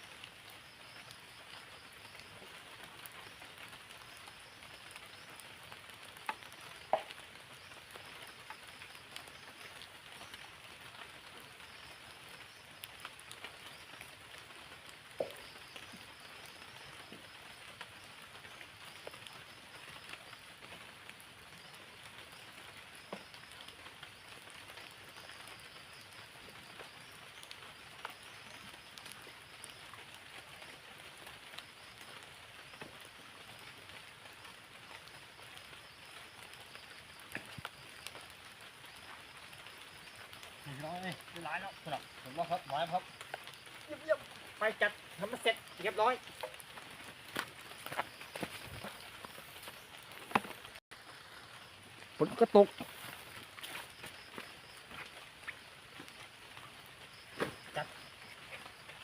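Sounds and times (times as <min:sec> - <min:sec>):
light rain falling: 0:00.0 - 0:59.0
single raindrops ticking: 0:00.0 - 0:59.0.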